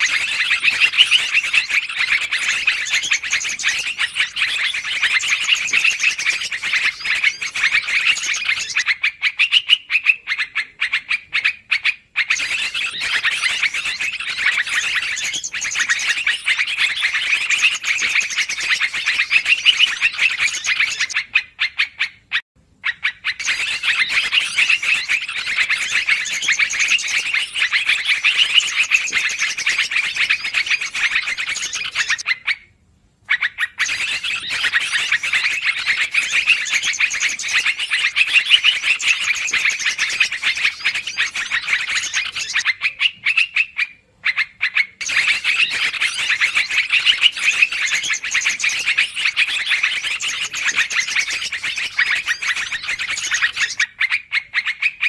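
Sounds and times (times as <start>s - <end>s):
bird chattering: 0.0s - 32.7s, 33.3s - 55.0s.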